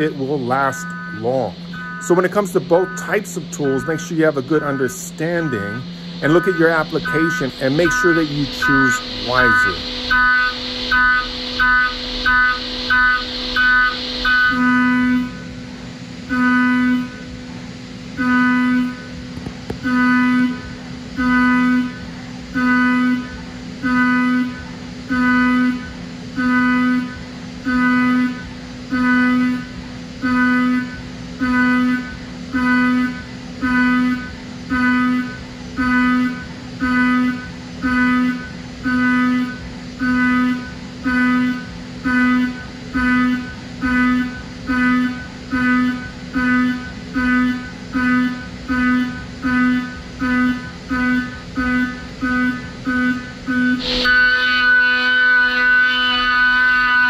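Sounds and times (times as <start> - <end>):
end mill cutting metal whine: 0.0 - 57.0.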